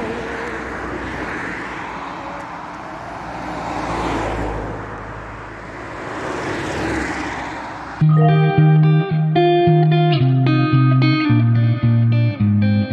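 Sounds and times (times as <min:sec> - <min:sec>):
cars passing: 0:00.0 - 0:12.5.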